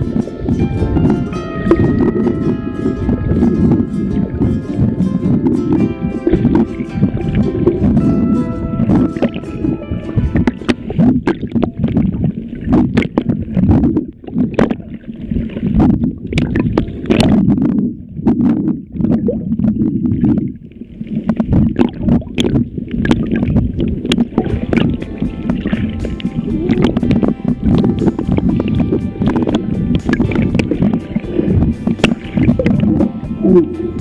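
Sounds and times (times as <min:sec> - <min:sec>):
sharp underwater crackles: 0:00.0 - 0:33.8
seawater churning underwater: 0:00.0 - 0:34.0.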